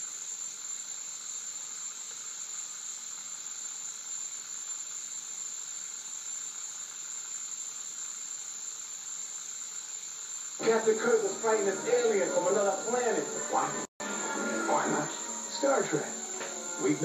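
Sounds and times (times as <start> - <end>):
steady tape hiss: 0.0 - 17.0
thin high-pitched whine: 0.0 - 17.0.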